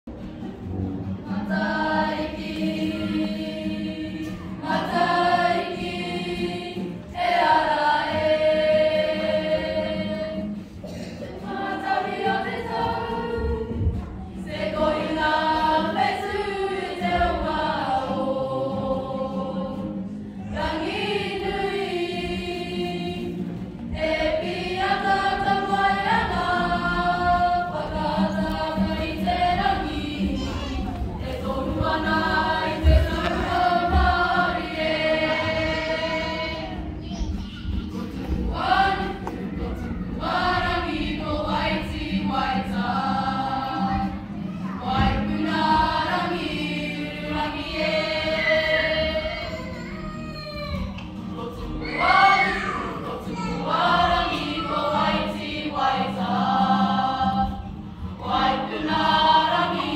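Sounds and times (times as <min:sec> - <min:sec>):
group of women singing: 0:01.1 - 0:37.0, 0:38.0 - 0:49.6, 0:51.1 - 0:59.9.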